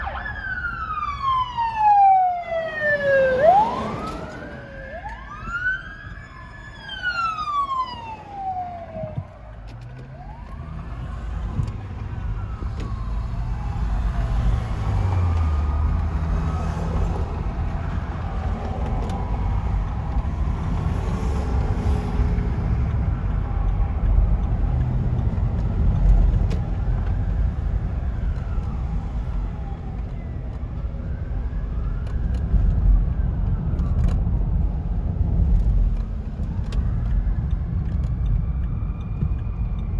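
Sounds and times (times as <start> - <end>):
fire truck engines rumbling: 0.0 - 39.9
fire truck sirens wailing: 0.0 - 39.9.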